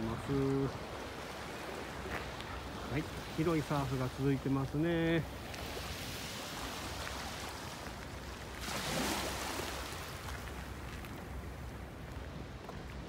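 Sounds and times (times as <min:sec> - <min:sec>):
small waves lapping at shore: 0:00.0 - 0:13.0
surge of water: 0:00.0 - 0:13.0.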